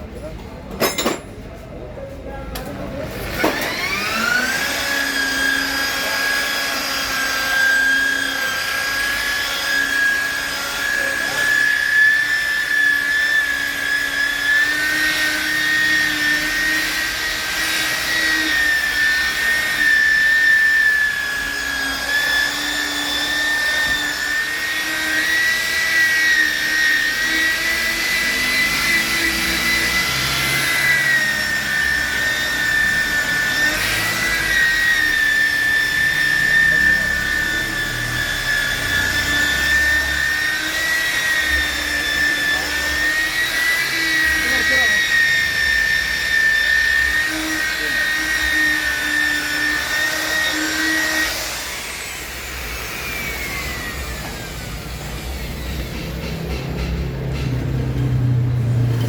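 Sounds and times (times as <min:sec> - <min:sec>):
power tool motor whining: 0:03.1 - 0:59.0.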